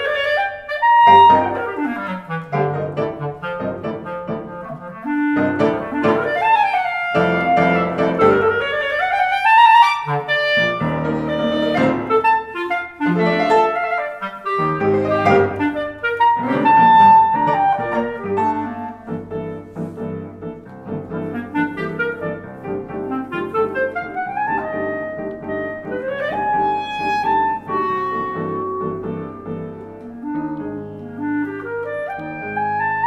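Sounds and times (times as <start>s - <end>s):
clarinet solo: 0.0s - 33.0s
piano accompaniment: 0.0s - 33.0s.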